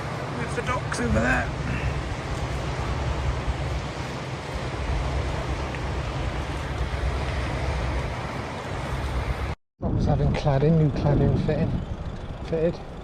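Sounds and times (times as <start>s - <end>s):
wind buffeting microphone: 0.9s - 13.0s.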